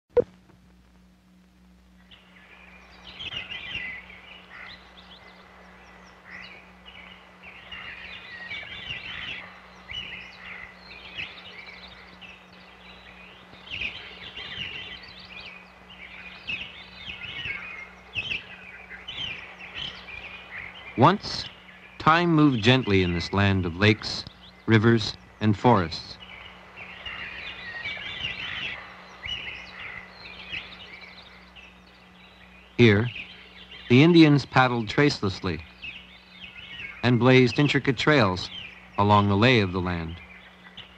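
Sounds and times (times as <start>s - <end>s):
low optical soundtrack hum: 0.1s - 40.9s
birds chirping and singing: 2.0s - 40.9s.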